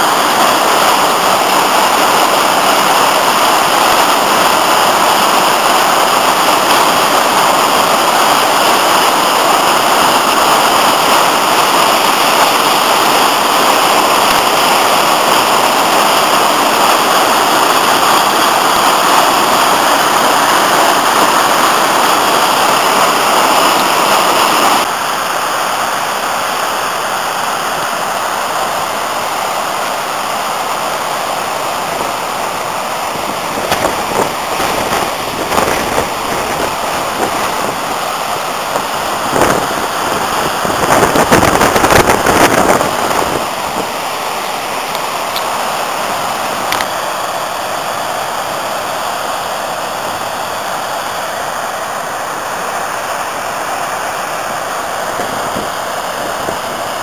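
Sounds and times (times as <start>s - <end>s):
white water rushing over rocks: 0.0s - 57.0s.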